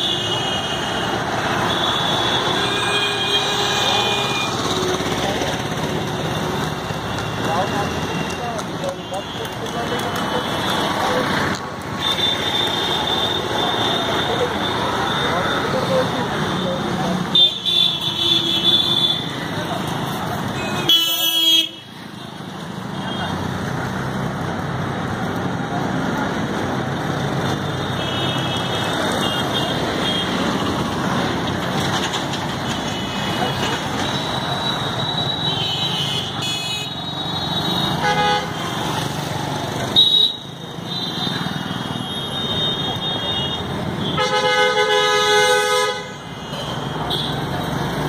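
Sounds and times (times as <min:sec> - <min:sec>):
street traffic noise: 0:00.0 - 0:48.0.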